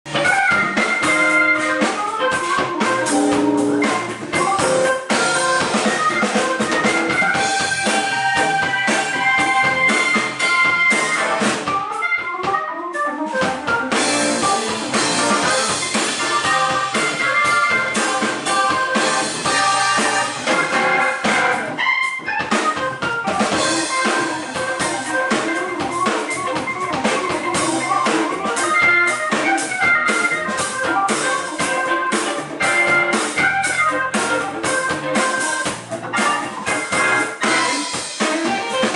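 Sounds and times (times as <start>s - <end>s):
guitar: 0.0s - 38.9s
drum kit: 0.1s - 38.9s
organ solo: 0.1s - 38.9s.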